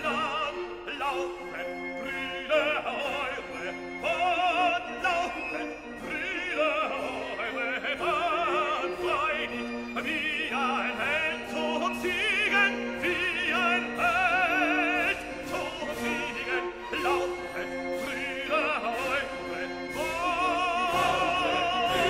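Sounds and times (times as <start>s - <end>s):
operatic voice singing: 0.0s - 22.0s
orchestral accompaniment: 0.0s - 22.0s.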